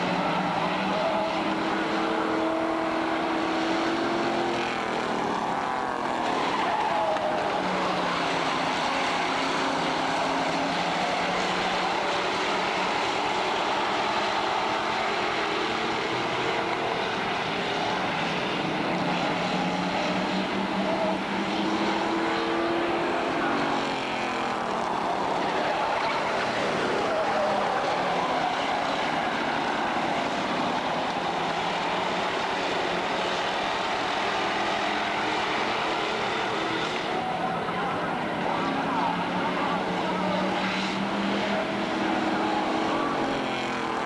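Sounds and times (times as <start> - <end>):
race car engines: 0.0 - 44.0.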